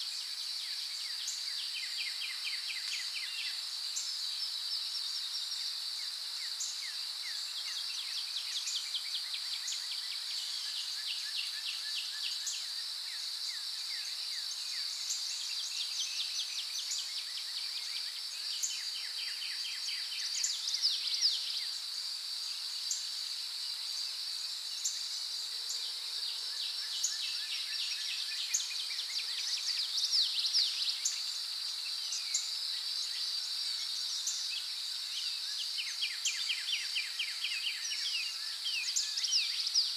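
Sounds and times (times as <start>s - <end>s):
insects chirping: 0.0s - 39.9s
insects droning: 0.0s - 39.9s.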